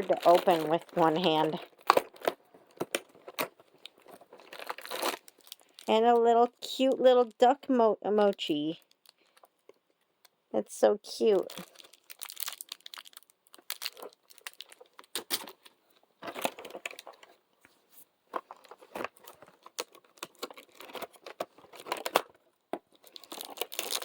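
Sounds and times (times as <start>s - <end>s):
packaging crinkling and tearing: 0.0s - 7.4s, 8.8s - 9.8s, 11.3s - 17.4s, 18.3s - 24.0s.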